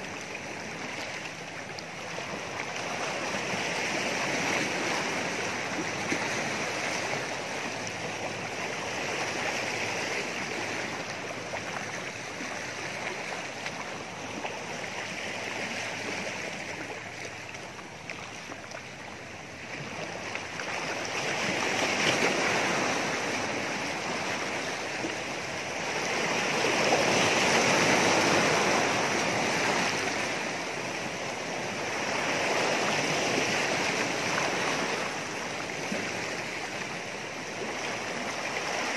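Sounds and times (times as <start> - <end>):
waves washing on rocky shore: 0.0 - 38.9.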